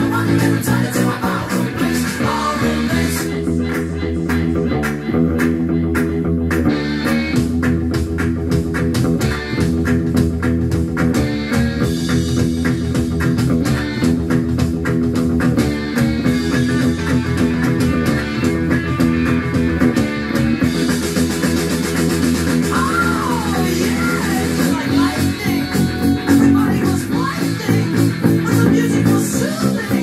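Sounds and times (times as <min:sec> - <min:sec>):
electric bass guitar: 0:00.0 - 0:30.0
rock music with drums and guitar: 0:00.0 - 0:30.0.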